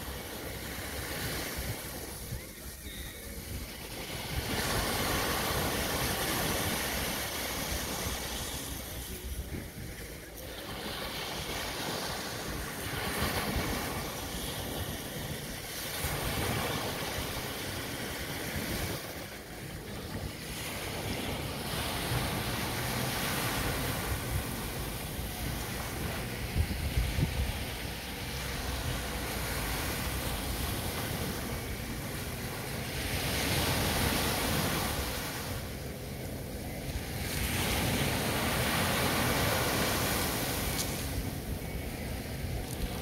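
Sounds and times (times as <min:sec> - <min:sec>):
waves washing up a sandy beach: 0:00.0 - 0:43.0.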